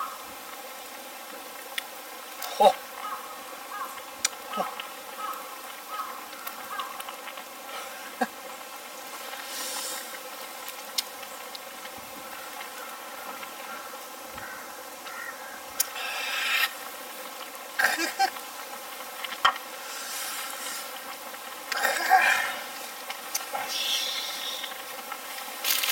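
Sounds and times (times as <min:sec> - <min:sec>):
burning log crackling: 0:00.0 - 0:25.9.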